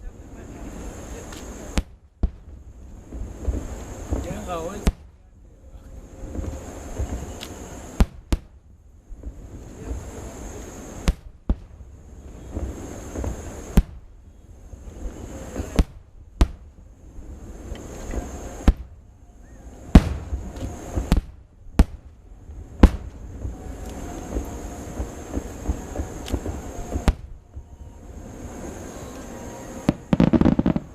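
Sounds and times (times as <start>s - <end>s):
fireworks bangs: 0.0s - 30.9s.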